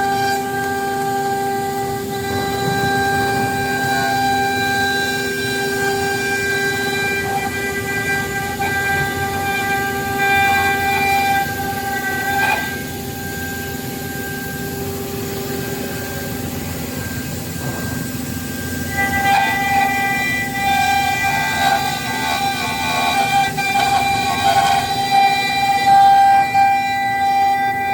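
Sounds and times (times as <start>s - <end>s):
spindle whine: 0.0s - 27.9s.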